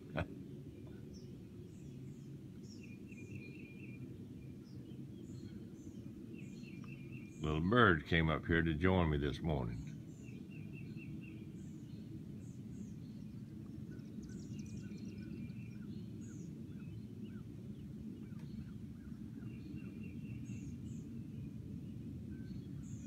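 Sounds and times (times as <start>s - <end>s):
low background rumble: 0.0s - 23.0s
small birds chirping and trilling: 0.0s - 23.0s.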